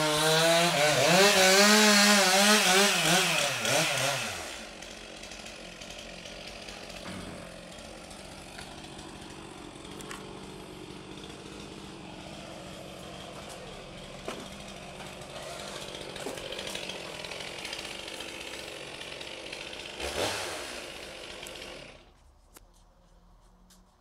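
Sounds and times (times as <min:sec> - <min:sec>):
chainsaw cutting wood: 0:00.0 - 0:22.3.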